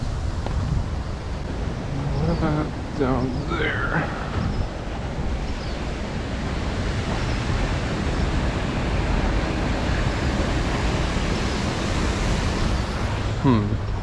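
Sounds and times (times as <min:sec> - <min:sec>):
water rushing over spillway: 0:00.0 - 0:13.8.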